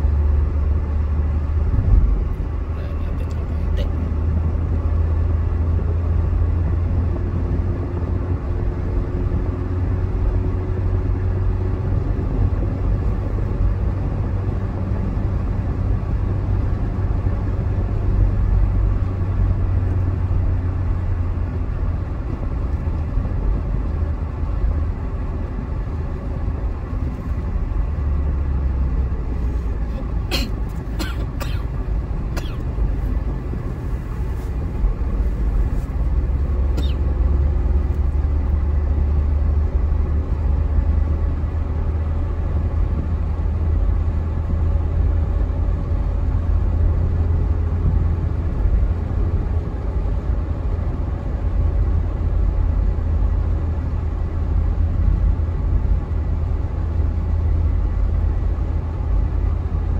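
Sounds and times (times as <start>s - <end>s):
car road noise at highway speed: 0.0s - 59.9s.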